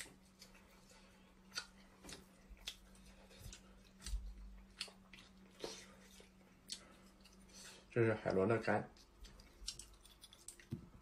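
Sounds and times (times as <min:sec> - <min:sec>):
wet clicks and smacks of chewing: 0:00.0 - 0:07.5, 0:08.9 - 0:11.0
faint steady hum: 0:00.0 - 0:11.0.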